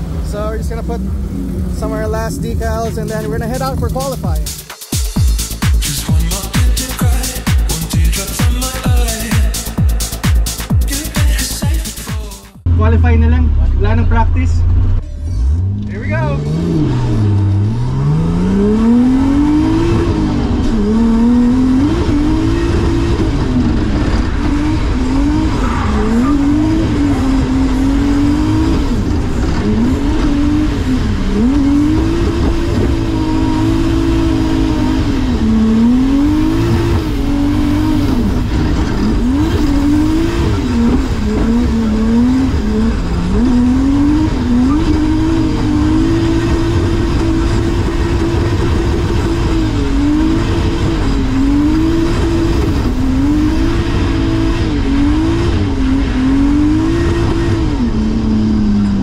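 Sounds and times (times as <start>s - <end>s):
drift car engine revving: 0.0s - 59.0s.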